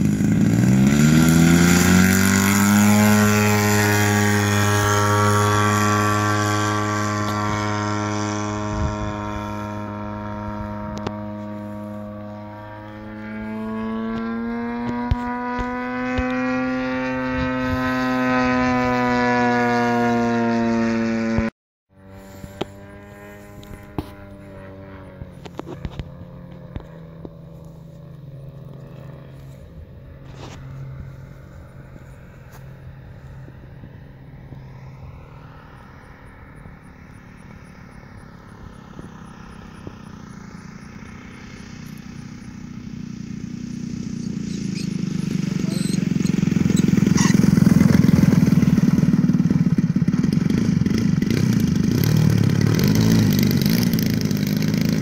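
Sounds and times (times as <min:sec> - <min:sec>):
model airplane engine running: 0:00.0 - 0:55.0.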